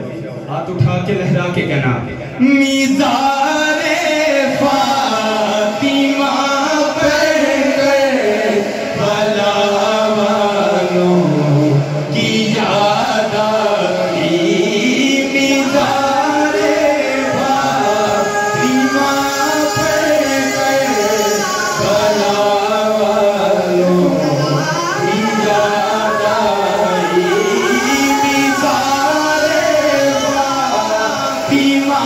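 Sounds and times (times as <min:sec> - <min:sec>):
men singing devotional song: 0:02.4 - 0:32.0.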